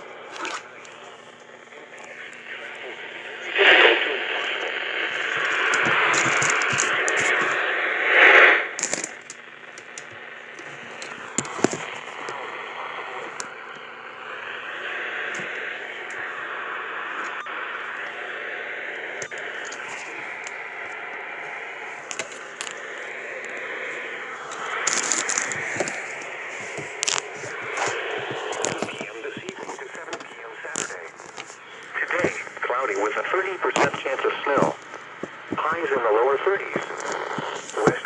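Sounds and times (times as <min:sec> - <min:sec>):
radio static with crackles: 0:00.0 - 0:38.0.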